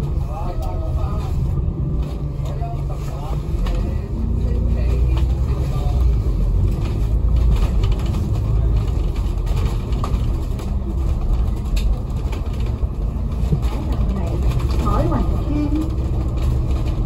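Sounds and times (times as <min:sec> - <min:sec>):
bus engine rumble and road noise: 0:00.0 - 0:17.0.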